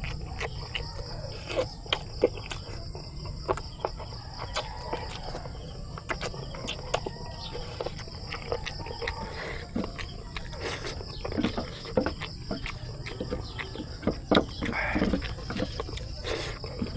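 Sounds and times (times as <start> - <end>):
wet chewing and lip smacks: 0.0 - 16.9.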